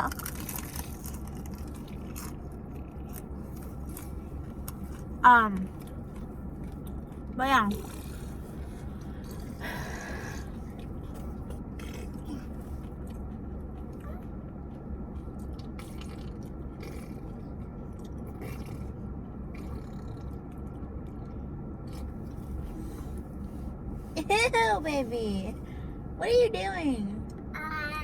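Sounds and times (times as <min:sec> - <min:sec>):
steady low hum: 0:00.0 - 0:28.0
person chewing food: 0:00.1 - 0:23.5.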